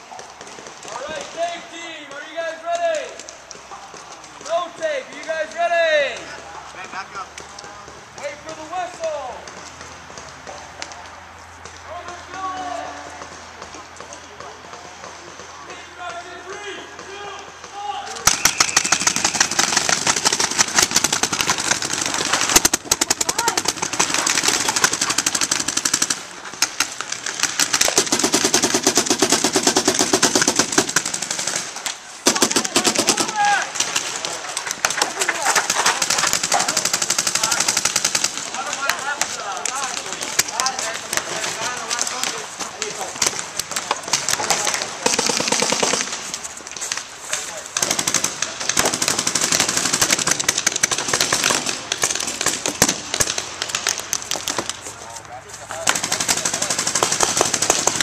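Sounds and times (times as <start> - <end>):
paintball markers firing: 2.7 - 55.0, 55.6 - 58.0.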